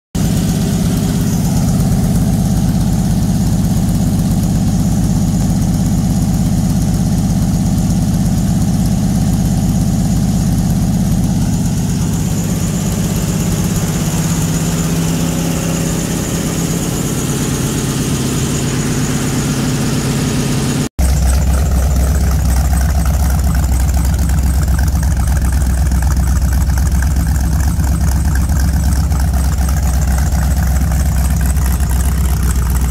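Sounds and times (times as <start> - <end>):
car engine idling: 0.2 - 32.9.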